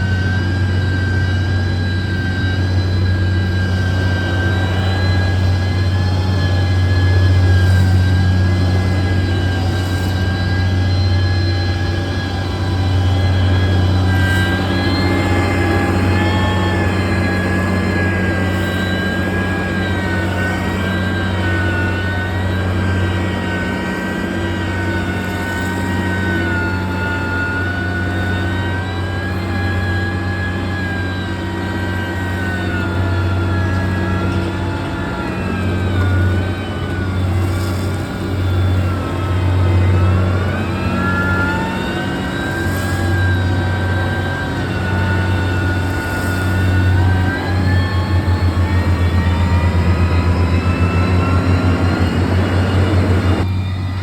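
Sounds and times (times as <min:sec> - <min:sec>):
engine whine: 0:00.0 - 0:54.0
heavy machine engine humming: 0:00.0 - 0:54.0.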